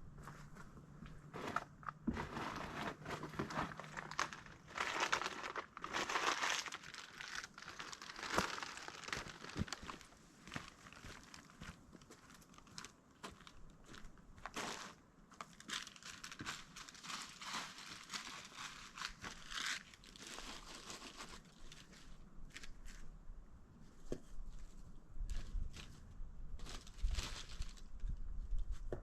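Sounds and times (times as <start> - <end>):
crinkling and rustling: 0.1 - 23.2, 23.8 - 29.0.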